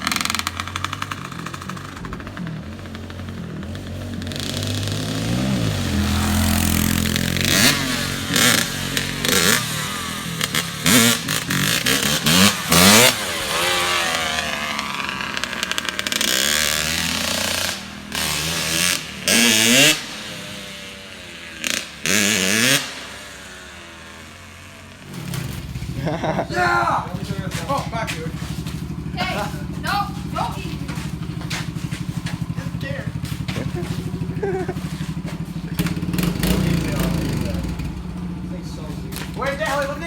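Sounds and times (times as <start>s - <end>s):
loud rasping blasts: 0.0s - 40.0s
off-road vehicle engine revving: 0.0s - 40.0s.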